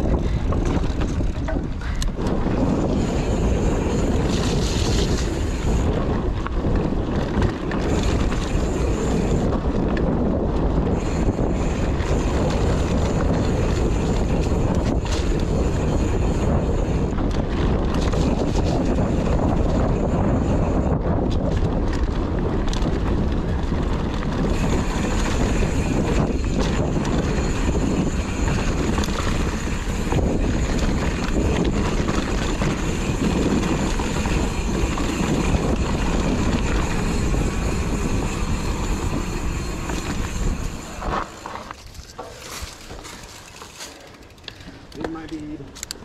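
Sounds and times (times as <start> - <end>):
bike tyres rumbling on dirt: 0.0 - 46.0
wind buffeting microphone: 0.0 - 46.0.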